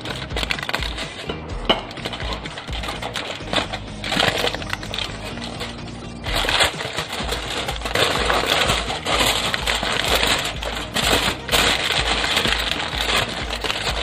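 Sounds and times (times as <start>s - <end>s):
aluminium foil crinkling: 0.0s - 14.0s.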